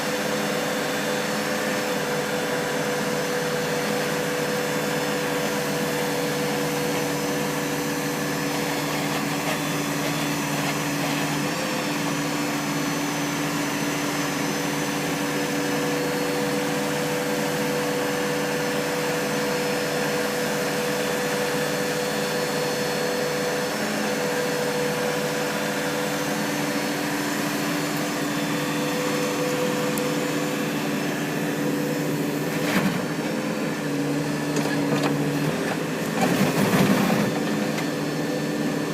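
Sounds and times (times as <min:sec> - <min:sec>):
backhoe engine whining: 0:00.0 - 0:38.9.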